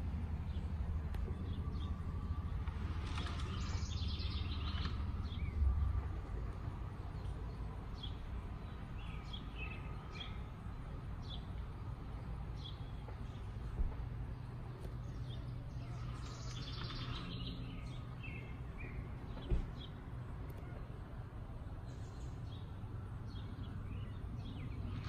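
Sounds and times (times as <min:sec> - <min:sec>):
low background rumble: 0:00.0 - 0:25.0
birds chirping: 0:00.4 - 0:25.0.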